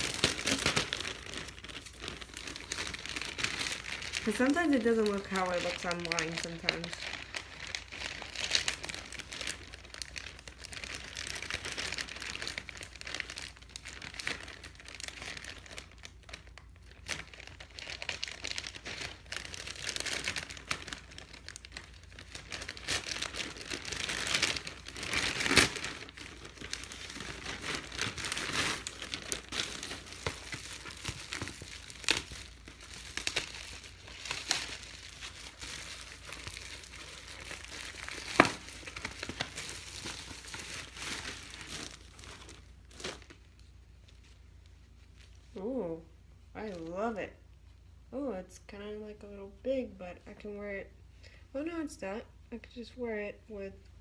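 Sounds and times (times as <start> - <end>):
packaging crinkling and rustling: 0.0 - 45.6.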